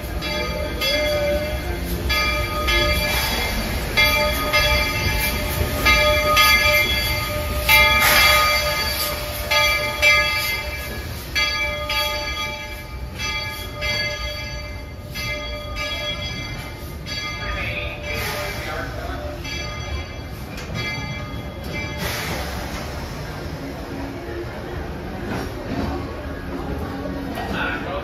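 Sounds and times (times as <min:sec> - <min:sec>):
locomotive bell ringing: 0:00.0 - 0:23.2
train rumbling: 0:00.0 - 0:28.0.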